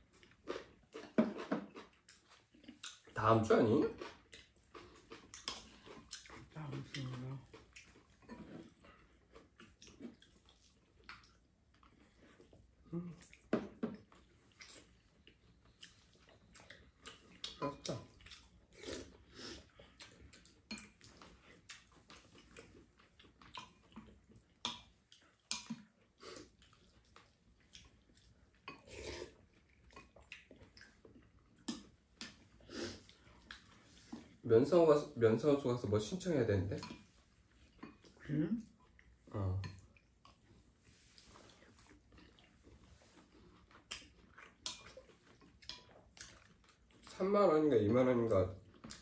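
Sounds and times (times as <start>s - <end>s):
quiet chewing: 0.0s - 49.0s.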